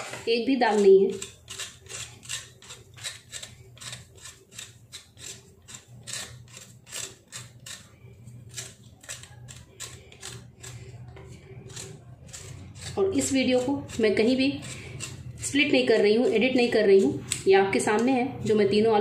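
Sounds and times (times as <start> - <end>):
knife scraping potato peel: 0.0 - 18.7.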